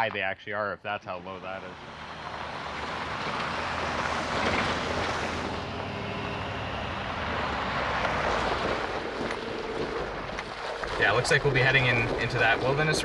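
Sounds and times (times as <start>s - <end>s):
truck engine hum: 0.9s - 13.0s.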